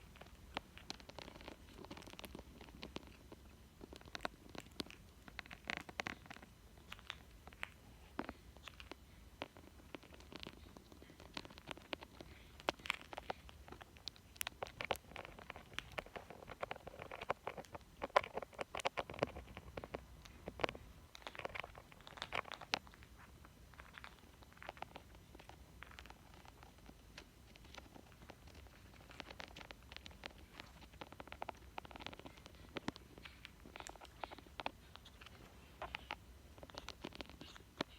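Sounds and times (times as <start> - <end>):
beak and claws scratching toy: 0.0 - 37.9.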